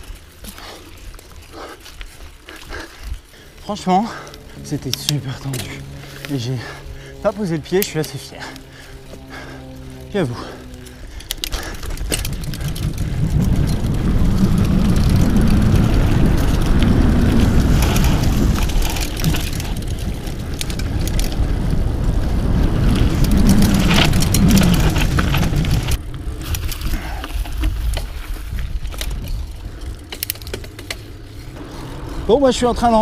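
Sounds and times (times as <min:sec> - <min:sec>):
bike rattles and clicks: 0:00.0 - 0:33.0
wind buffeting microphone: 0:00.0 - 0:33.0.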